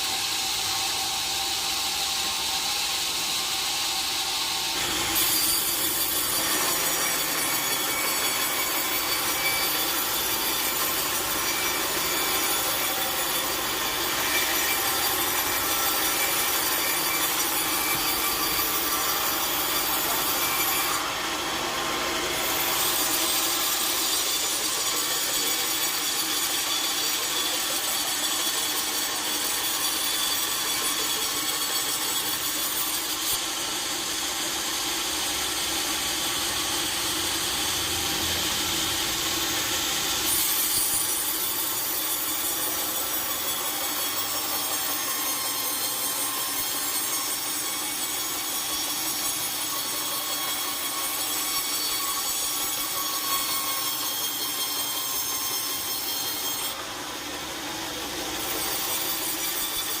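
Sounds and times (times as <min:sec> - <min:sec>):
high saw whine: 0:00.0 - 1:00.0
sawmill saw cutting log: 0:00.0 - 1:00.0.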